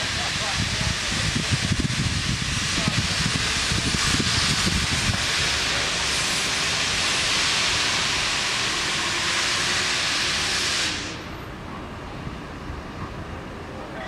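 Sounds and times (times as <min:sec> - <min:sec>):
steam locomotive venting steam: 0:00.0 - 0:14.0.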